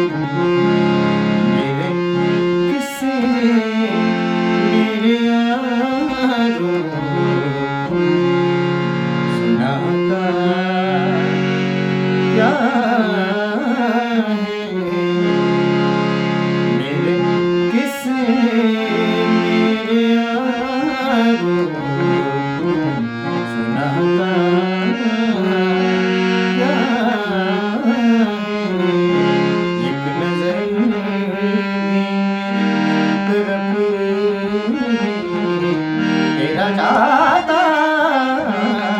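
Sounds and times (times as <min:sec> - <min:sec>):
held accompaniment notes: 0:00.0 - 0:38.9
person singing ornamented lines: 0:01.1 - 0:15.8, 0:16.7 - 0:38.9.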